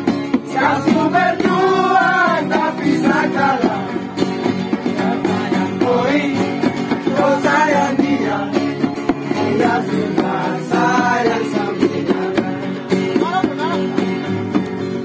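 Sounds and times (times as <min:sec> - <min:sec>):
men singing together: 0:00.0 - 0:13.6
ukulele strumming: 0:00.0 - 0:15.0.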